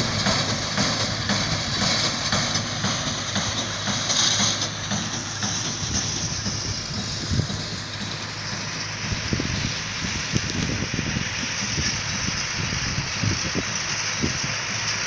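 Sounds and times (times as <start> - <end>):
hay baler clattering: 0.0 - 15.0.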